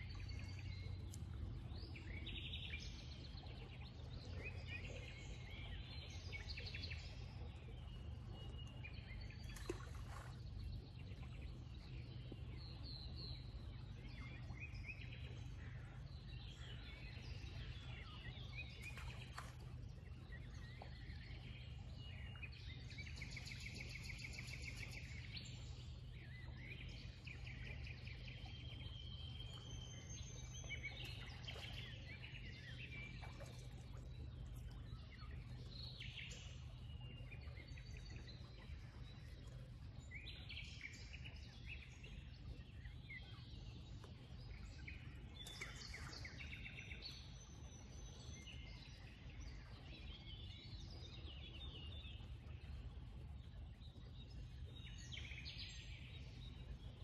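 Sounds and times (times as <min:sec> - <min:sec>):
low background rumble: 0:00.0 - 0:57.0
songbirds singing and chirping: 0:00.0 - 0:57.0.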